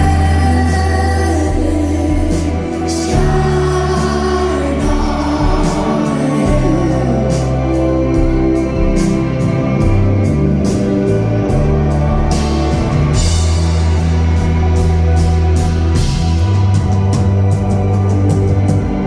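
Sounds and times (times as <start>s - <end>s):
bass guitar: 0.0s - 19.0s
drum kit with cymbal hits: 0.0s - 19.0s.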